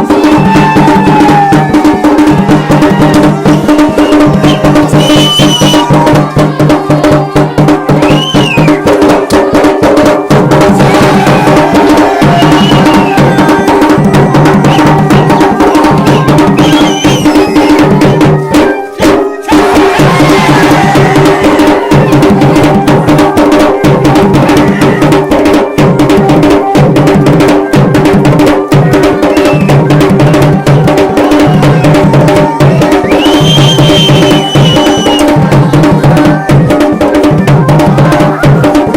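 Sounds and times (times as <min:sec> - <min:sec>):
drums playing fast rhythm: 0:00.0 - 0:38.9.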